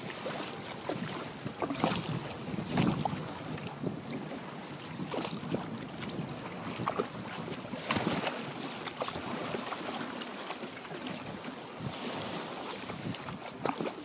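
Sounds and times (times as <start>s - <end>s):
wind buffeting microphone: 0.0s - 10.0s, 11.1s - 14.0s
water slapping kayak hull: 0.0s - 14.0s.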